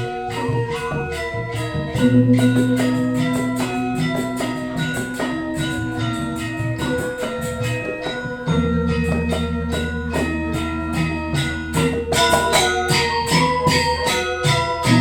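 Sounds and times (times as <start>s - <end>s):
cymbal-like jingling: 0.0s - 15.0s
metallophones in fast patterns: 0.0s - 15.0s.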